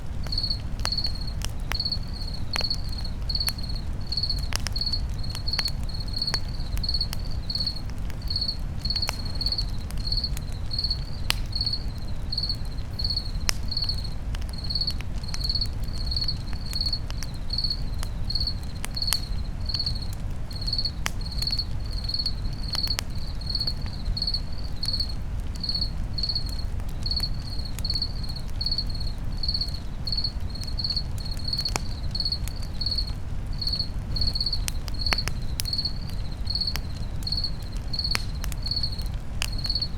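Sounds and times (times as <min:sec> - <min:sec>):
campfire crackling and popping: 0:00.0 - 0:39.9
cricket chirping: 0:00.2 - 0:39.9.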